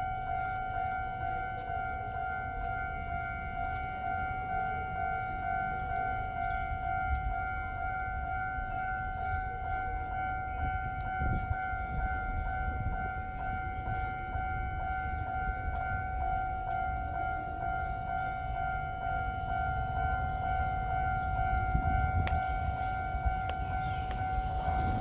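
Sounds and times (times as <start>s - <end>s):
steady high-pitched tone: 0.0s - 25.0s.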